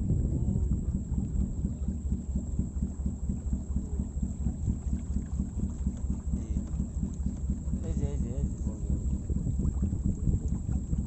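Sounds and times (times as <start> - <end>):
wind buffeting microphone: 0.0 - 2.3, 3.8 - 11.0
boat motor rumbling: 0.0 - 11.0.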